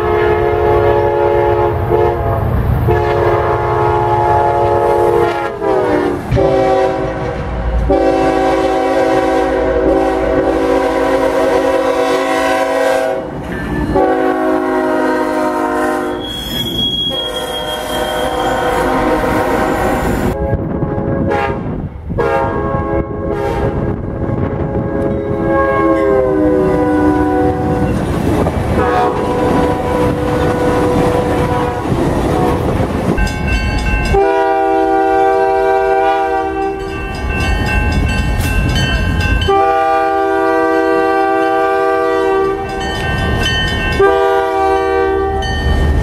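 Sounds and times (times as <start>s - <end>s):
locomotive air horn chords: 0.0s - 13.4s, 14.0s - 28.0s, 28.8s - 32.7s, 34.1s - 36.9s, 39.4s - 42.9s, 43.9s - 45.6s
train rumbling on rails: 0.0s - 46.0s.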